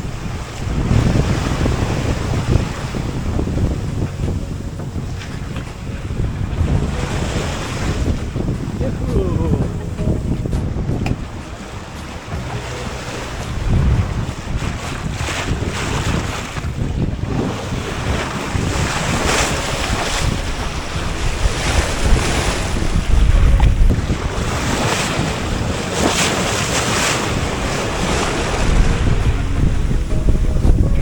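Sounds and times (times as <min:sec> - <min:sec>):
waves washing past hull: 0:00.0 - 0:31.0
wind buffeting microphone: 0:00.0 - 0:31.0.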